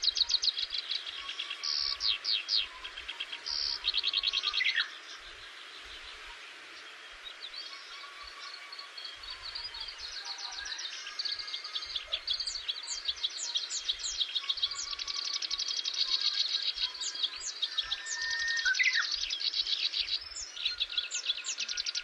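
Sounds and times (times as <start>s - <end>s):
songbirds chirping and trilling: 0.0s - 22.0s
steady background hiss: 0.0s - 22.0s.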